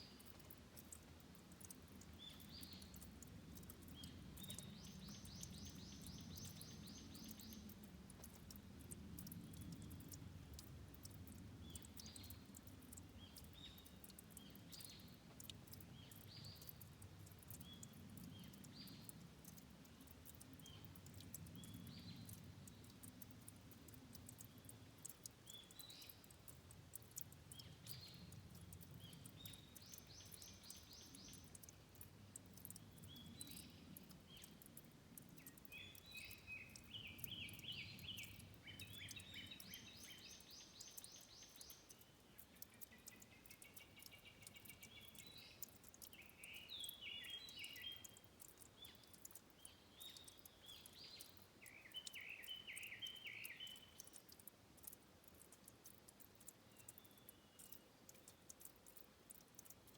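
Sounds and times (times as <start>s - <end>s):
songbirds singing trills: 0.0s - 59.9s
water trickling: 0.0s - 59.9s.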